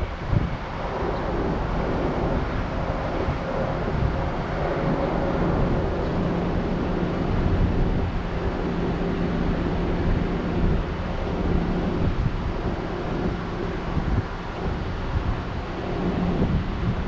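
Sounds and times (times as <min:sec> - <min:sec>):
vehicle road and wind noise: 0:00.0 - 0:17.0
wind buffeting microphone: 0:00.0 - 0:17.0.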